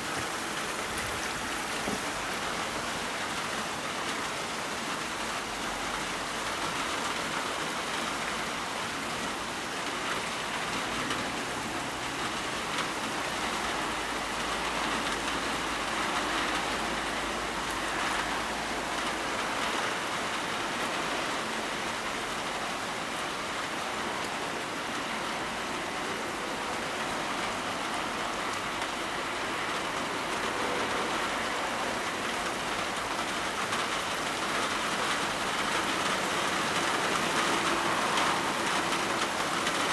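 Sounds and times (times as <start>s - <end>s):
rain splashing on surfaces: 0.0s - 39.9s.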